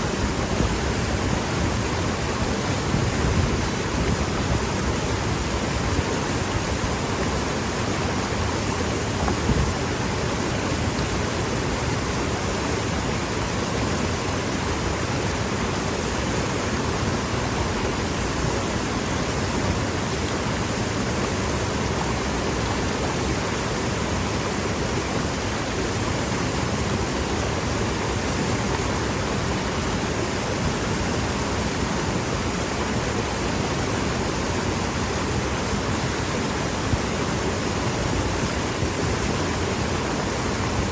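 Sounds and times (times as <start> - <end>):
stream rushing over boulders: 0.0 - 40.9.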